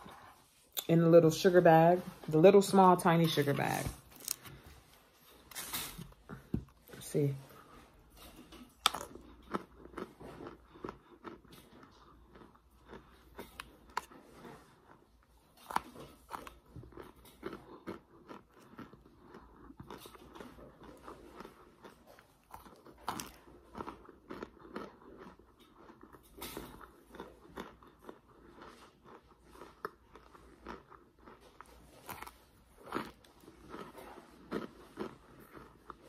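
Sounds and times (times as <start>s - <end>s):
chewing crunchy starch chunks: 3.2s - 36.0s.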